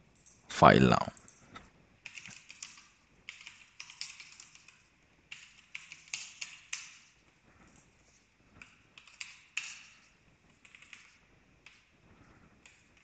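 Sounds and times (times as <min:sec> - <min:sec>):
typing on a computer keyboard: 0:02.0 - 0:13.0.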